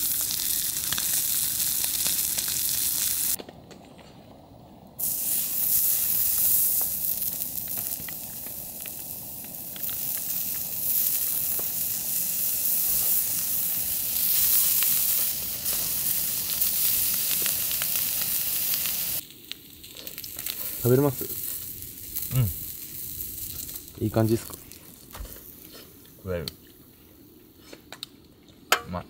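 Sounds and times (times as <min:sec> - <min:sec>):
meat sizzling with pops: 0:00.0 - 0:03.4, 0:05.0 - 0:29.0.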